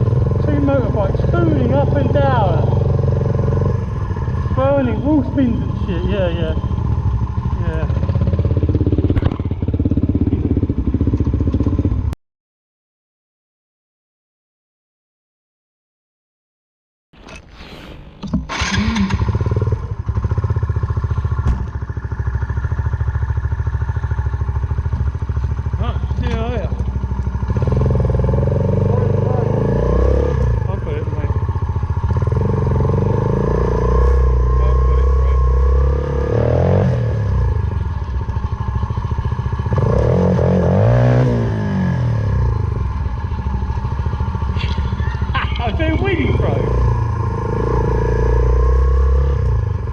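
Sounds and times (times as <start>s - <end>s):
motorcycle engine starting and idling: 0.0s - 12.2s, 17.2s - 49.9s.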